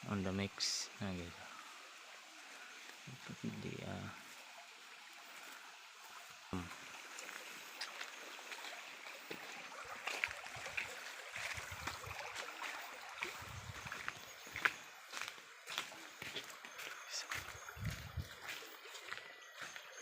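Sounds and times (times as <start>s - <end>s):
running water: 0.0s - 20.0s.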